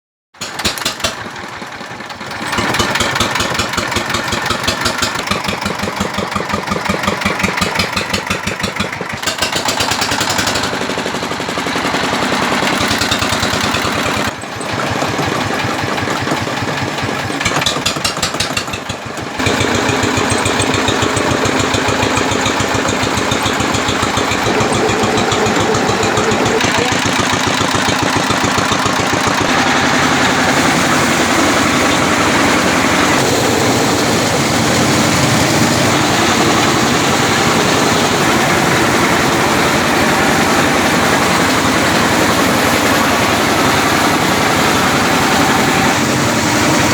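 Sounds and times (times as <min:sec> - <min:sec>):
rice milling machine running: 0:00.4 - 0:46.9.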